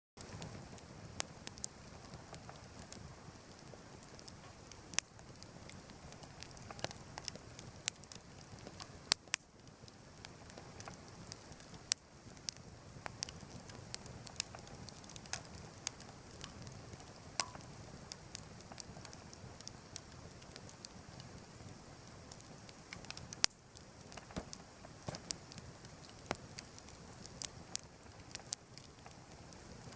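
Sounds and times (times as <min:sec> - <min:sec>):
campfire crackling and popping: 0:00.2 - 0:29.9
soft steady hiss: 0:00.2 - 0:29.9.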